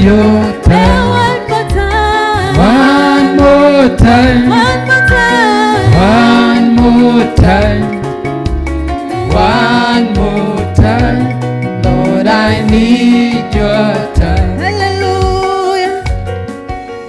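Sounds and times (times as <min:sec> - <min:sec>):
instrumental gospel music: 0:00.0 - 0:17.0.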